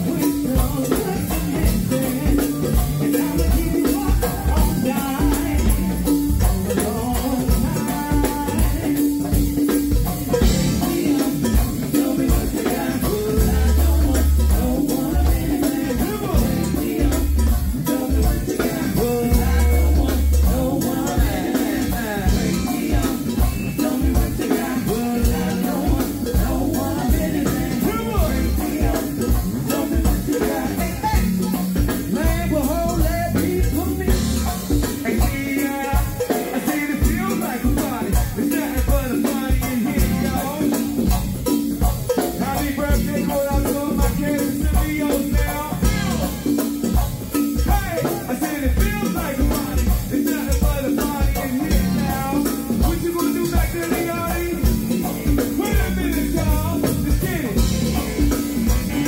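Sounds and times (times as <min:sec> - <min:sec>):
person singing: 0:00.0 - 0:09.7, 0:10.3 - 0:41.0, 0:47.5 - 0:59.0
bass guitar: 0:00.0 - 0:59.0
drum kit beat: 0:00.0 - 0:59.0
live band playing: 0:00.0 - 0:59.0.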